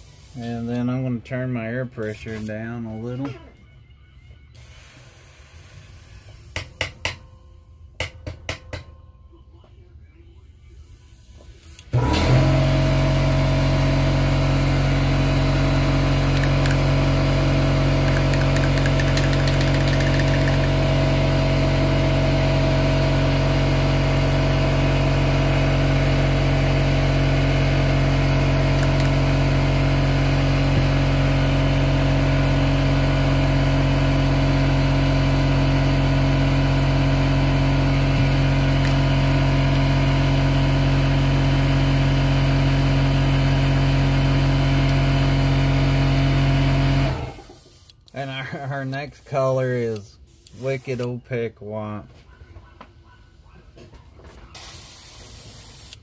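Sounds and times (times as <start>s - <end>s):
air compressor motor humming: 0.0s - 3.4s, 4.5s - 7.4s, 10.8s - 51.2s.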